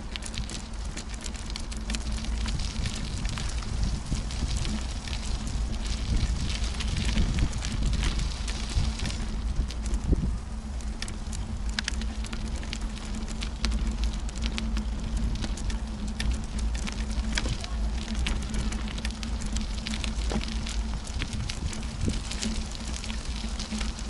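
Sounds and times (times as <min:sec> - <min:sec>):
small clicks and crackles: 0:00.0 - 0:24.0
wheeled carrier rumbling on path: 0:00.0 - 0:24.0.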